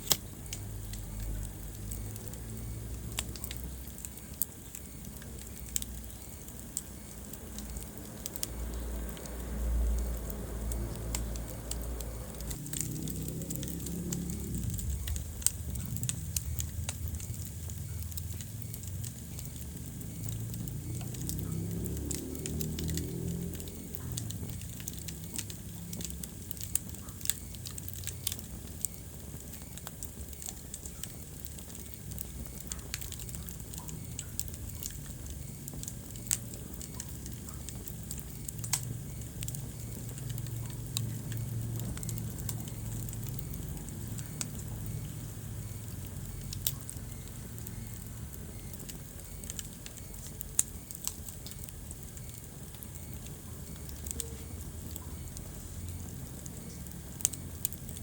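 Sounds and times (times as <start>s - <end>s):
fire crackling and popping: 0.0s - 58.0s
flames rumbling: 0.0s - 58.0s.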